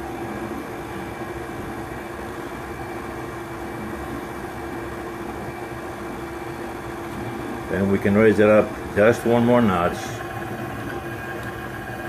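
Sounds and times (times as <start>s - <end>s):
stand mixer humming: 0.0s - 12.0s.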